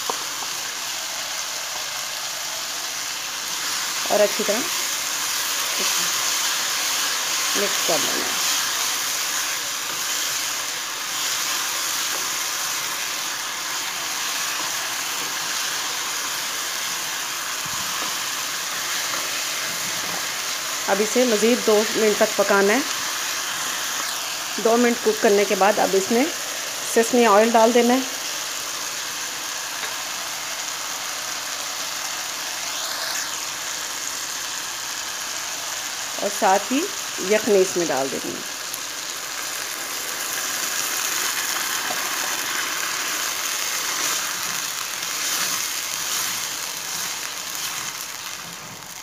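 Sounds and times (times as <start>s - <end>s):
vegetables sizzling in a wok: 0.0s - 49.0s.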